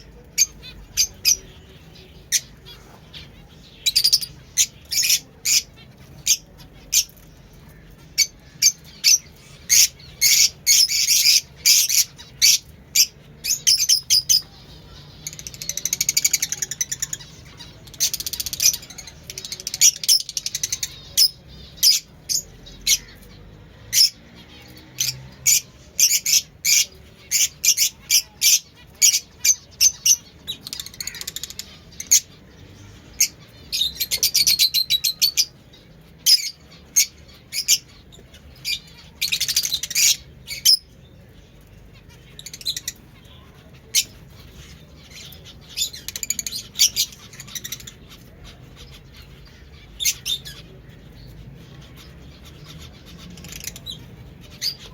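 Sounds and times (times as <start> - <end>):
lovebirds chirping and squawking: 0.0 - 54.9.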